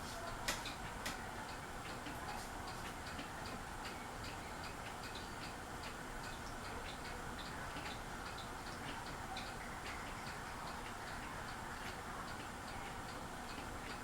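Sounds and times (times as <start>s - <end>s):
fan ticking: 0.0s - 14.0s.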